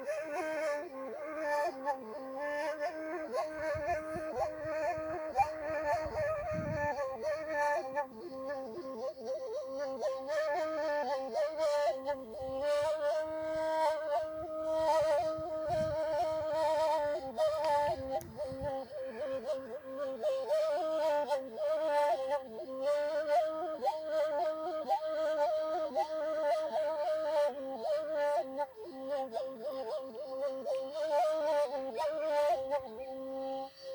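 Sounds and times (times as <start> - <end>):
reed flute melody: 0.0 - 33.9.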